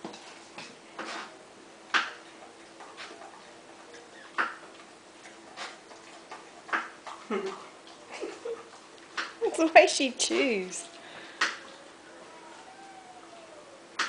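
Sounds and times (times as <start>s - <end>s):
dog crunching food: 1.9s - 14.0s.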